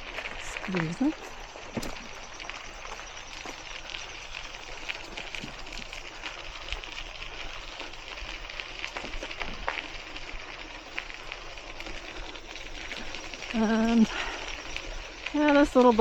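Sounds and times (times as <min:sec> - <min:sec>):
bike tyres rolling on a path: 0:00.0 - 0:16.0.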